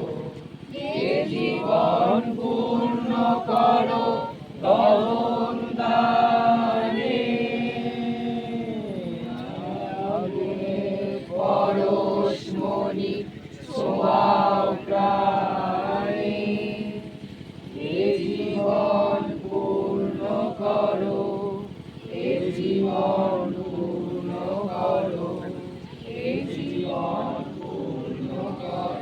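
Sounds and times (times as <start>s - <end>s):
group singing in unison: 0.0s - 29.0s.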